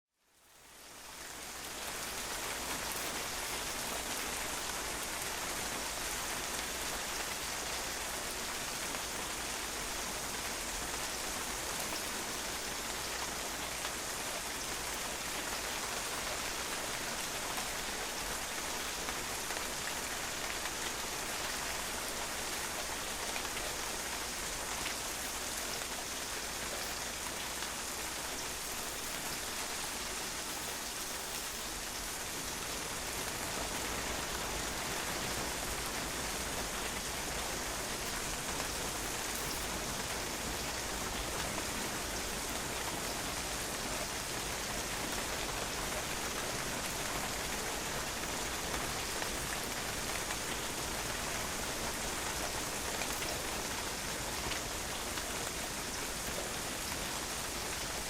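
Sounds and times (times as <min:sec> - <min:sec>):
rain splashing on a patio: 0:00.6 - 0:58.0.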